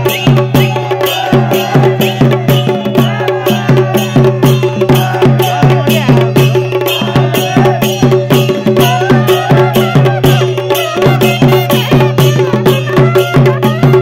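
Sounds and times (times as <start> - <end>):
fast drum beat: 0.0 - 14.0.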